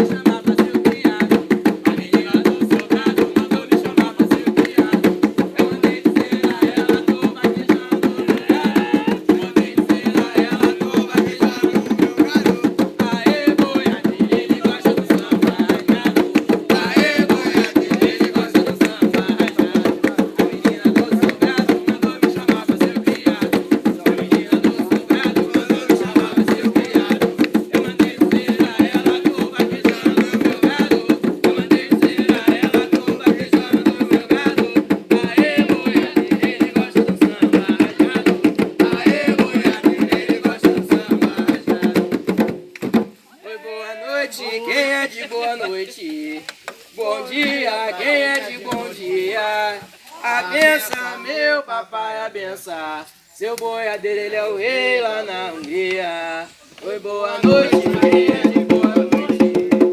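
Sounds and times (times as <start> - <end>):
hand drums playing fast rhythm: 0.0 - 43.2, 46.5 - 49.2, 57.4 - 59.9.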